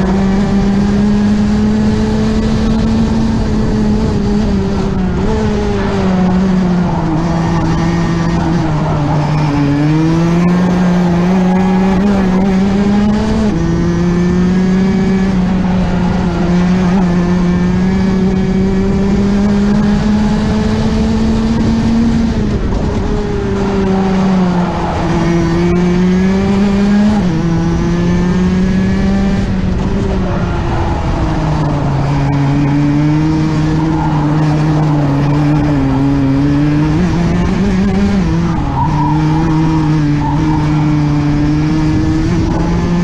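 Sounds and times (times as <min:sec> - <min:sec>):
kart engine at racing speed: 0:00.0 - 0:43.0.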